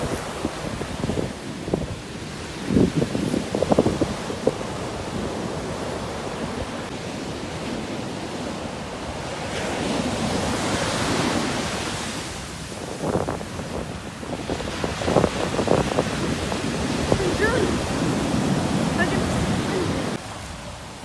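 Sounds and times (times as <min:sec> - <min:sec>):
sea waves washing onto shore: 0:00.0 - 0:21.0
wind on microphone: 0:00.0 - 0:21.0.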